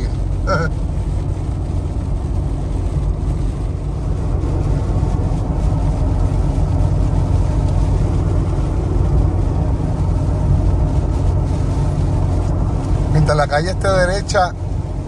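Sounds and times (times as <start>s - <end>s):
low rumble inside car cab: 0.0s - 15.0s.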